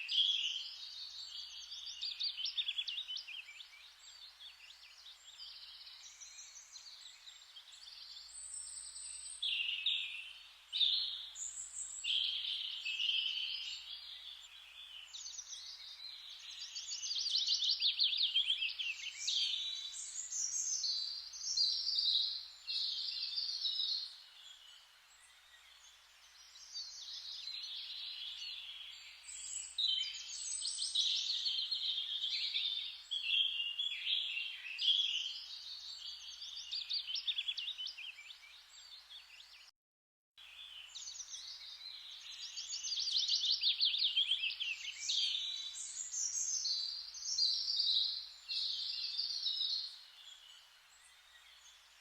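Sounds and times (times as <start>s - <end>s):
faint steady hiss: 0.0s - 39.5s, 40.4s - 52.0s
birds chirping and trilling: 0.0s - 39.7s, 40.5s - 52.0s.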